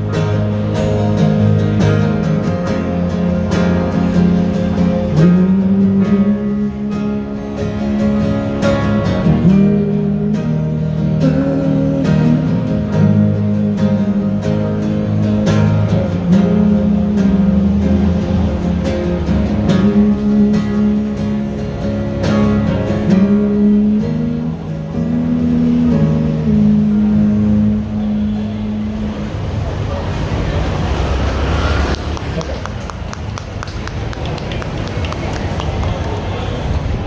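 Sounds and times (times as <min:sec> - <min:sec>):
acoustic guitar strumming: 0:00.0 - 0:31.6.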